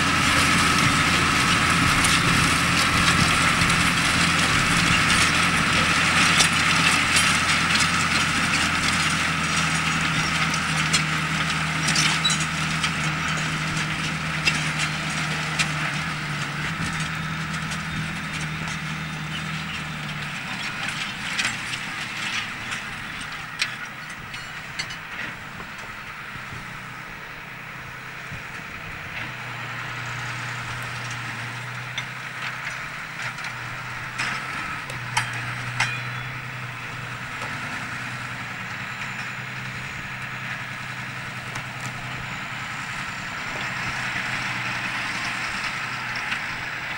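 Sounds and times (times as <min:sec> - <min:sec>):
tractor diesel engine drone: 0:00.0 - 0:46.9.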